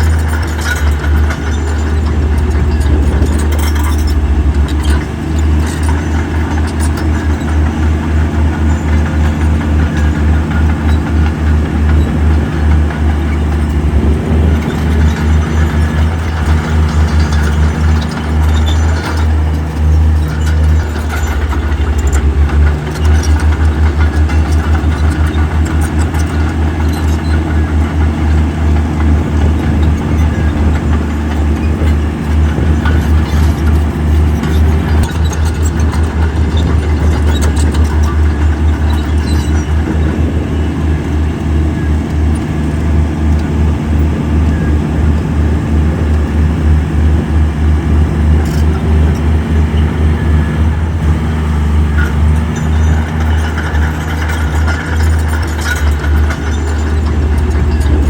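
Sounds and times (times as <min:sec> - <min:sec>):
heavy machinery diesel engine rumbling: 0:00.0 - 0:58.0.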